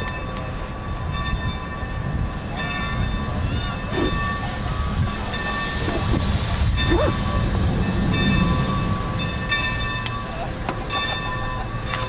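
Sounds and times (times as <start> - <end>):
low locomotive rumble: 0.0 - 12.0.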